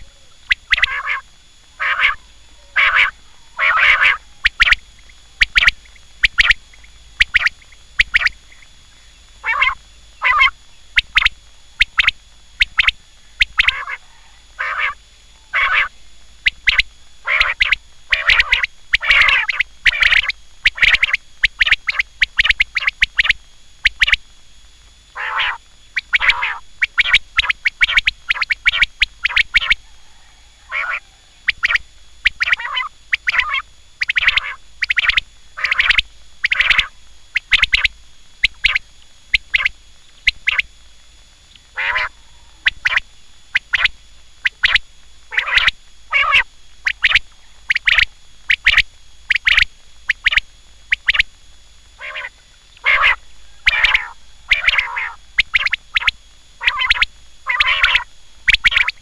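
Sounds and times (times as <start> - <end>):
quail calling: 0.0 - 8.7, 9.4 - 24.2, 25.2 - 40.7, 41.7 - 51.3, 52.0 - 59.0.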